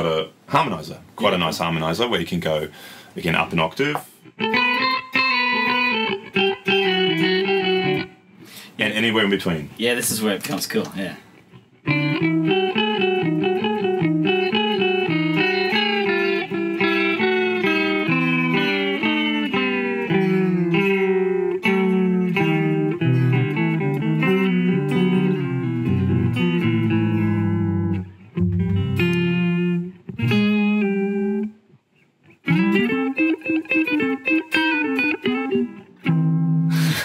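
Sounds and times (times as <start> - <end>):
electric guitar with pitch-shifted harmony: 4.2 - 8.6, 11.5 - 37.0.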